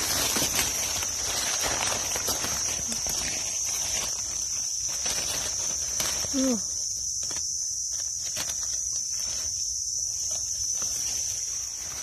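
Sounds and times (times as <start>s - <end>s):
dry leaves rustling: 0.0s - 12.0s
insects droning: 0.0s - 12.0s.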